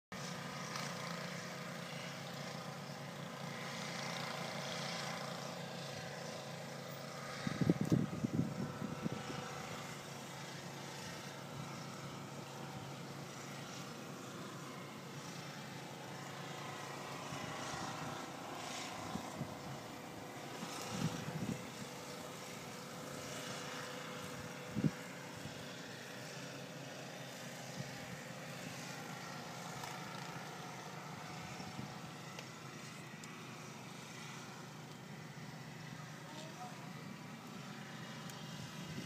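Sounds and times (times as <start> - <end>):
distant engine drone: 0.2 - 39.0.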